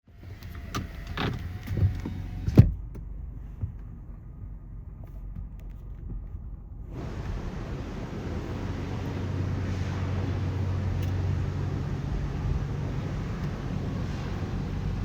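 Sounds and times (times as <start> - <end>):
low steady rumble: 0.1 - 15.0.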